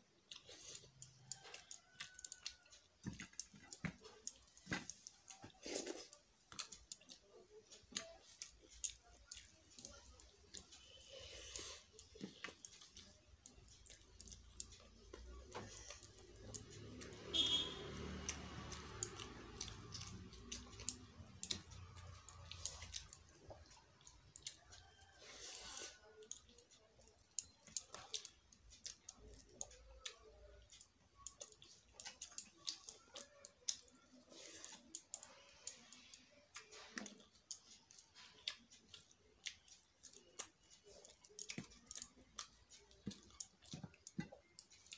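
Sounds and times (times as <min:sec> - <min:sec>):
fingers squishing rice: 0:00.0 - 0:44.9
person chewing: 0:00.0 - 0:44.9.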